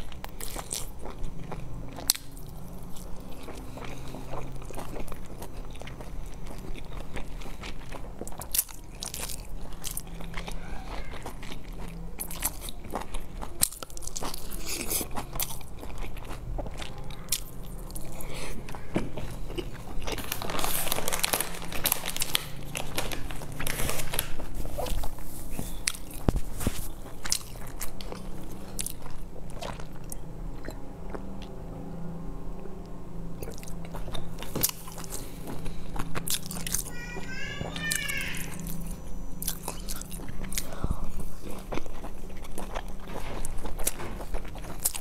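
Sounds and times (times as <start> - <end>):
chewing and crunching food: 0.0 - 31.9, 32.6 - 45.0
low steady hum: 0.0 - 45.0.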